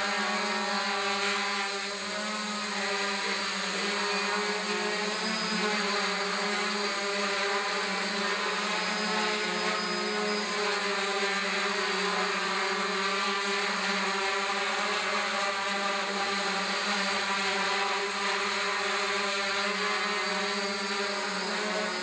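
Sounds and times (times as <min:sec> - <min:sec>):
drone hovering whine: 0:00.0 - 0:22.0.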